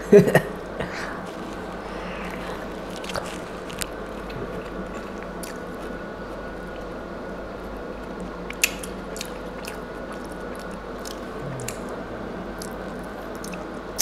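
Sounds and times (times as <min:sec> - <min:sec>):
steady background hum: 0:00.0 - 0:14.0
person chewing food: 0:00.7 - 0:14.0.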